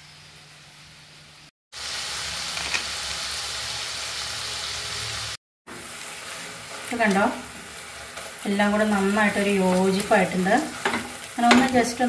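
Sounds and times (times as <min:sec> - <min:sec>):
masala sizzling in a pan: 0:00.0 - 0:12.0.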